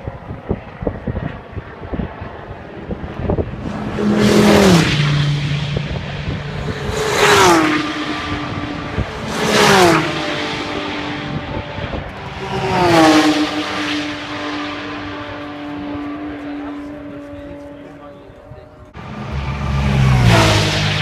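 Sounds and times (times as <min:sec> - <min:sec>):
racing cars passing by: 0:00.0 - 0:21.0.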